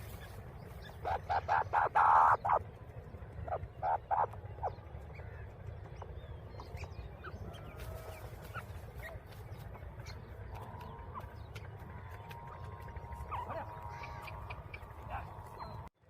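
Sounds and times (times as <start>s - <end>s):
bird harsh repeated calls: 0.0s - 2.6s, 3.4s - 5.3s, 6.6s - 15.9s.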